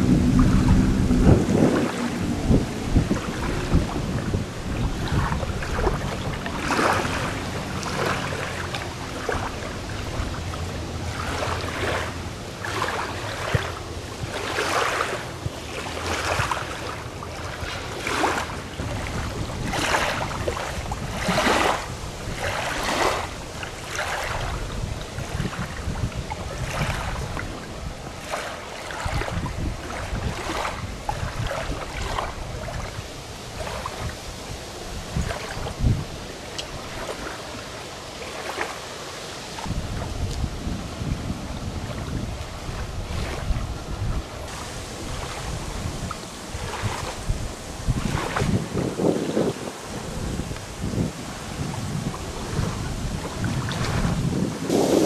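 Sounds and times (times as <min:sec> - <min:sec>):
distant jet ski engine: 0:00.0 - 0:55.0
water lapping: 0:00.0 - 0:55.0.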